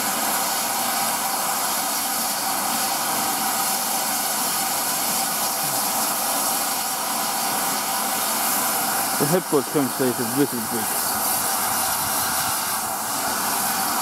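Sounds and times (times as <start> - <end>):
steam hissing from locomotive: 0.0 - 14.0.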